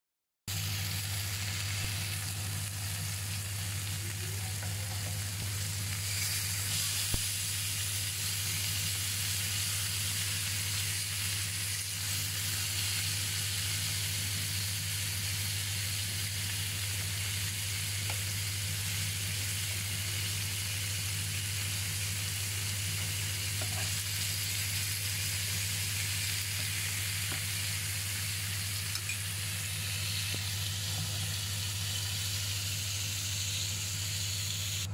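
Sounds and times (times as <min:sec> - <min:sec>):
meat sizzling in oil: 0:00.5 - 0:34.9.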